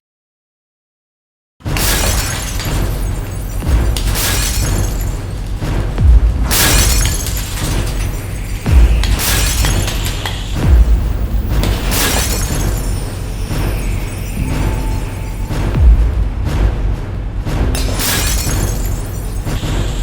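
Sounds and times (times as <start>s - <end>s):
shattering glass effects: 1.7s - 5.9s, 6.5s - 16.2s, 17.7s - 20.0s
heavy hits: 1.7s - 20.0s
dramatic countdown music: 3.6s - 20.0s.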